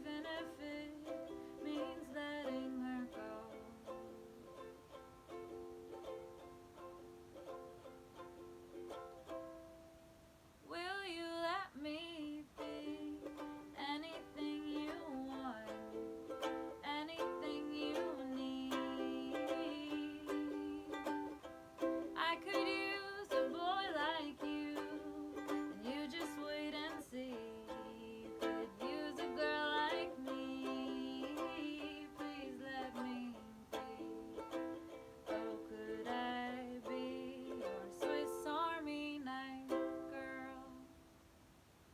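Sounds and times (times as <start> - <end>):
person singing: 0.0 - 6.4, 10.7 - 41.0
ukulele: 0.0 - 41.4.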